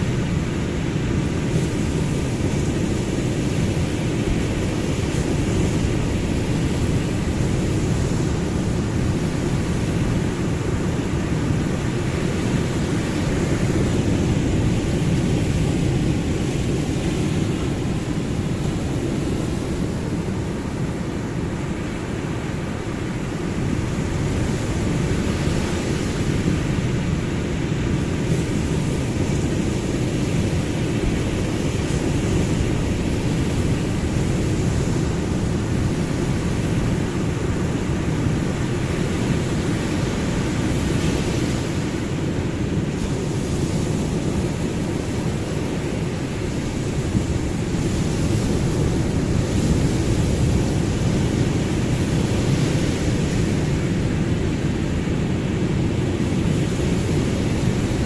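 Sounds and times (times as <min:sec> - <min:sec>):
ocean surf rushing: 0:00.0 - 0:58.0.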